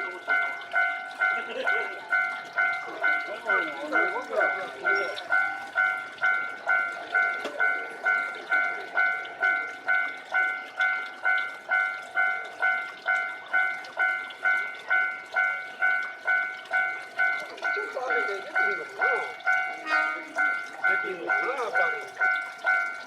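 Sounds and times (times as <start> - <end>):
level crossing bell clanging: 0.0 - 23.0.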